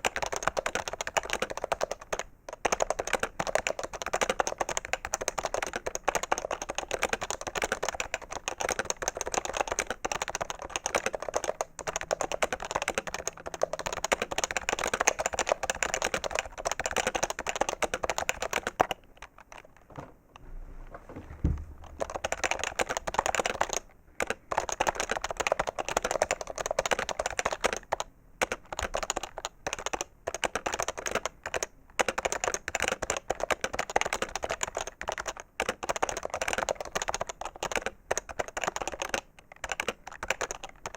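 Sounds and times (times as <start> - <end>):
fast typing on a keyboard: 0.0 - 19.9, 21.8 - 40.9.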